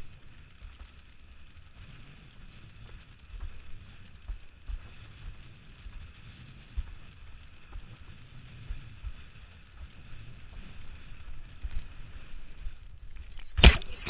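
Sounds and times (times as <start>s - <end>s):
wind buffeting camera: 0.0s - 14.0s.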